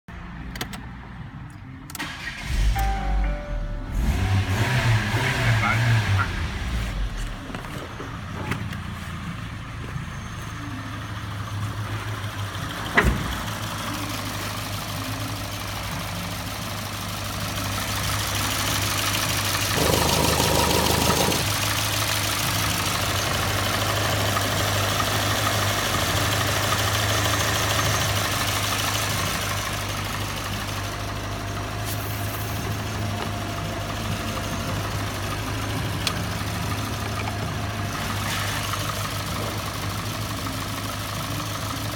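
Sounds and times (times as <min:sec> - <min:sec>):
car engine idling: 0:05.6 - 0:41.9.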